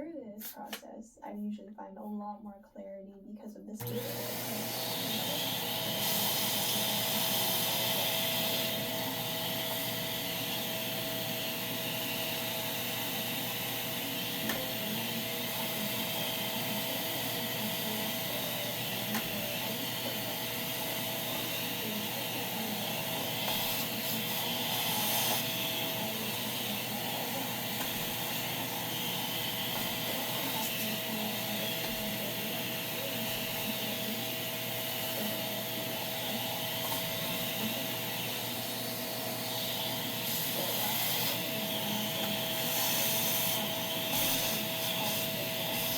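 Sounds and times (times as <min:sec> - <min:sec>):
vacuum cleaner running: 0:03.8 - 0:45.9.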